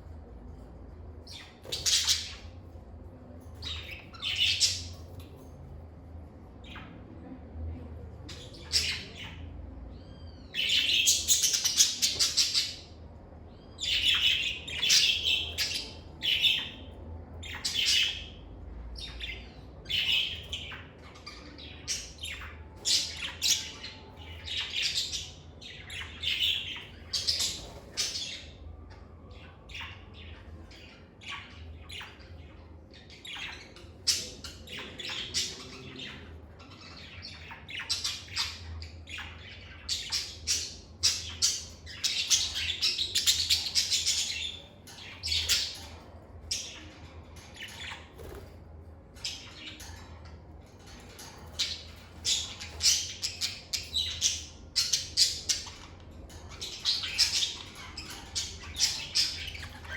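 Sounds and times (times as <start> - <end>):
lovebirds chirping and squawking: 0.0 - 59.9.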